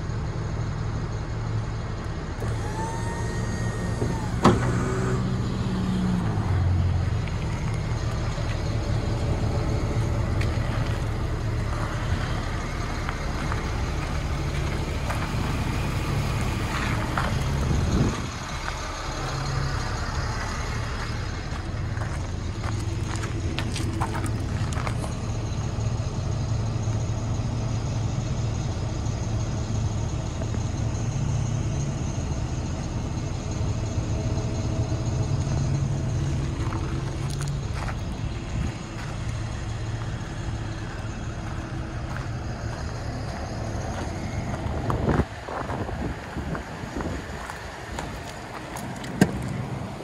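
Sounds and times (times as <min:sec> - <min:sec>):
truck engine idling: 0:00.0 - 0:50.0.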